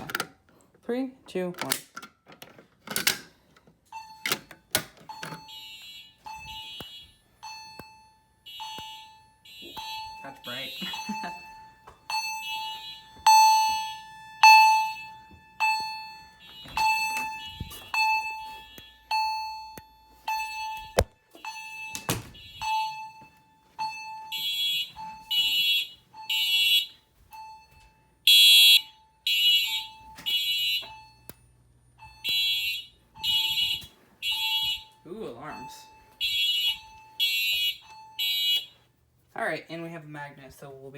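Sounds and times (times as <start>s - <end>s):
fire alarm chime ringing: 3.8s - 38.9s
electronic fire alarm horn blasts: 5.1s - 31.2s, 32.0s - 39.0s.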